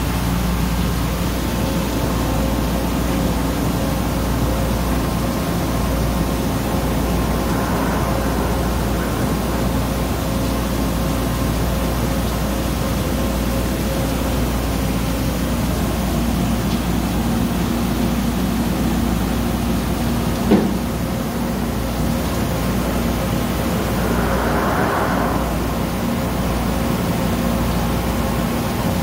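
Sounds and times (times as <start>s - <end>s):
machine humming and whining: 0.0s - 29.0s.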